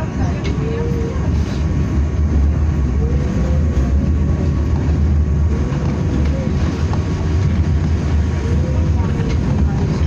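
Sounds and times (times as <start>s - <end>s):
tram wheels rumbling on rail: 0.0s - 10.0s.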